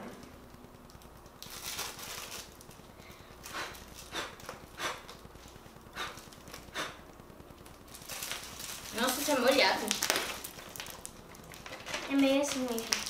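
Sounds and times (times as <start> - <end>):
slime squelching and crackling: 0.5 - 13.0.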